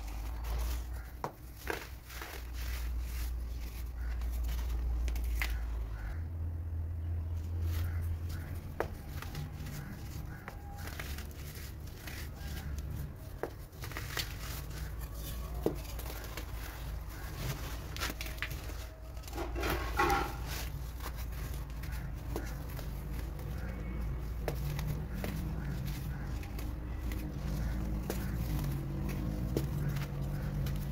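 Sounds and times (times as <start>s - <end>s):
powder crunching by hand: 0.0s - 6.2s, 7.6s - 30.9s.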